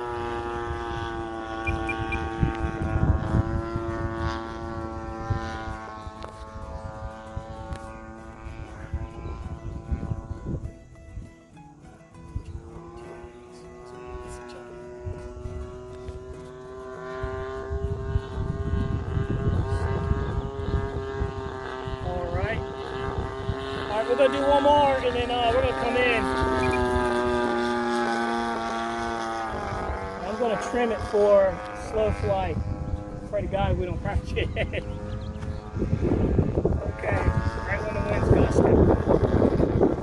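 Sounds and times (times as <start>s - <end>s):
model airplane engine drone: 0.0s - 40.0s
wind buffeting microphone: 0.0s - 40.0s.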